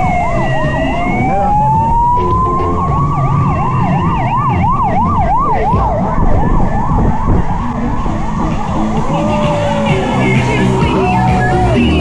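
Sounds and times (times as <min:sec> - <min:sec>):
passing vehicles rumbling: 0:00.0 - 0:12.0
siren wailing: 0:00.0 - 0:12.0
siren yelping: 0:00.0 - 0:12.0.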